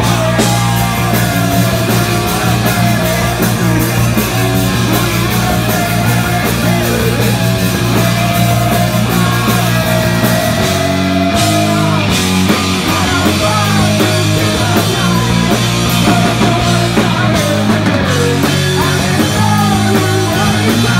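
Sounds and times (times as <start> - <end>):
bass guitar: 0.0 - 20.9
drum kit: 0.0 - 20.9
electric guitar: 0.0 - 20.9
man singing along: 0.0 - 20.9.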